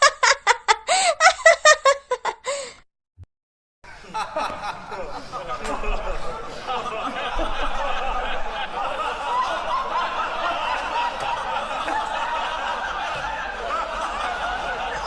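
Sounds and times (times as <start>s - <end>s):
people chuckling: 0.0s - 2.8s, 3.9s - 15.0s.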